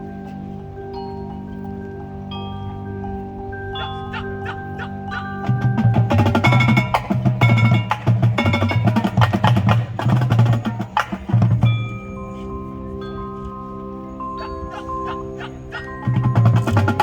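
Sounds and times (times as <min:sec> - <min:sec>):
ringing mallet keyboard tones: 0:00.0 - 0:17.0.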